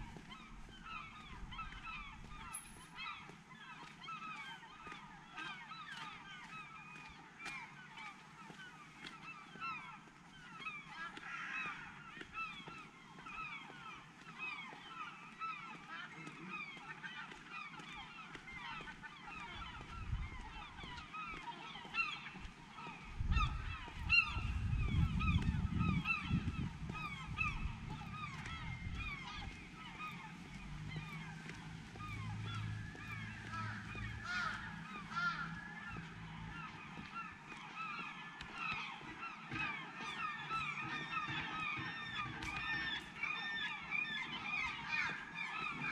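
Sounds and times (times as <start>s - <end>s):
flock of gulls calling: 0.0s - 45.9s.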